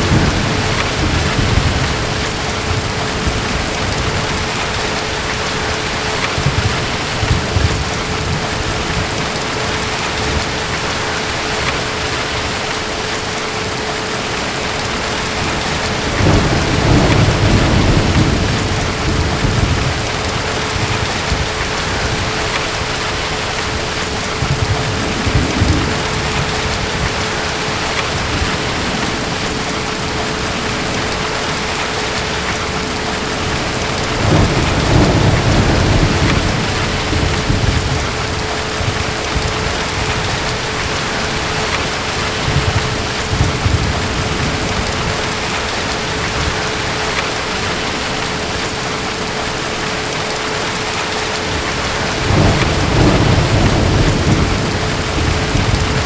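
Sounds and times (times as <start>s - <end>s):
distant thunder rumbling: 0.0s - 56.0s
heavy rain: 0.0s - 56.0s.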